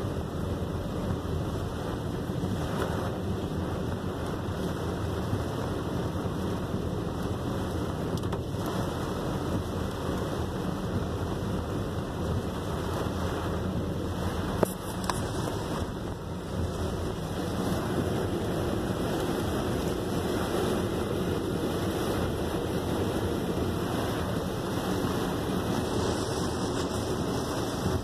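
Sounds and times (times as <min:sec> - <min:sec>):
heavy rain on vehicle: 0:00.0 - 0:28.0
road noise: 0:00.0 - 0:28.0.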